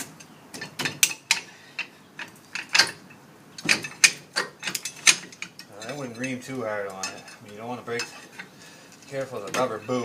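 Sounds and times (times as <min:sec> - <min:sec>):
pry bar clanking on metal: 0:00.0 - 0:10.0.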